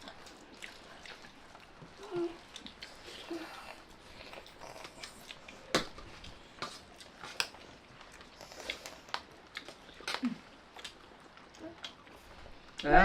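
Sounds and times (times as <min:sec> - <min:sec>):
chewing and biting: 0:00.0 - 0:12.8.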